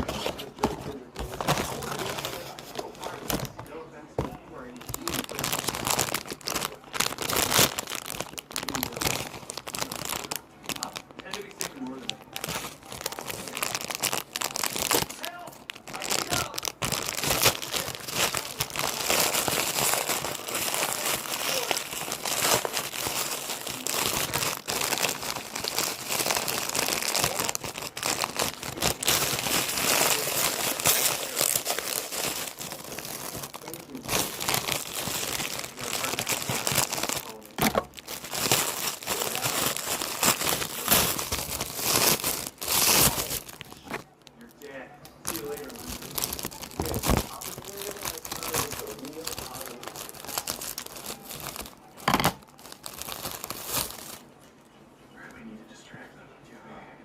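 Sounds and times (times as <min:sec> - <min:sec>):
packaging crinkling and tearing: 0:00.0 - 0:54.4.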